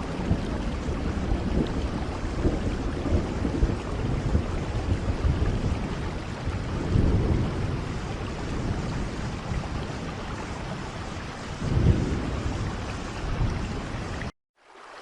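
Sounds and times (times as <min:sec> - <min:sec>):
thunder rumbling: 0:00.0 - 0:14.3
steady rain: 0:00.0 - 0:15.0.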